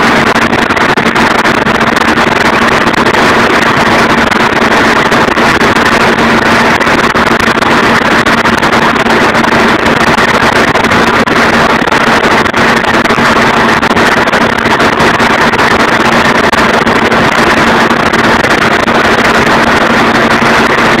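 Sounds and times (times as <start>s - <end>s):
slurry mixer mechanical drone: 0.0s - 21.0s.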